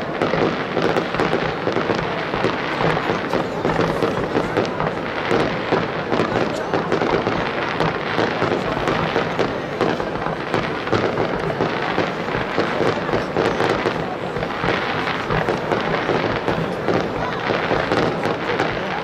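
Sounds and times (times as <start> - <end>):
firework crackling: 0.0 - 19.0.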